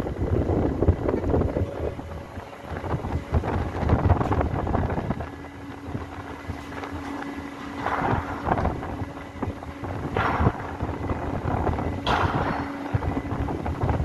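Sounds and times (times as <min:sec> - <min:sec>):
low machinery rumble: 0:00.0 - 0:14.0
steady machinery hum: 0:00.0 - 0:14.0
wind buffeting microphone: 0:00.0 - 0:14.0.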